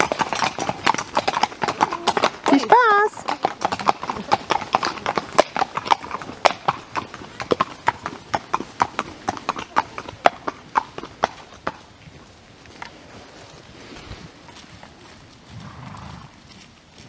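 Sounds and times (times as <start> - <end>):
horse hooves on asphalt: 0.0 - 17.0.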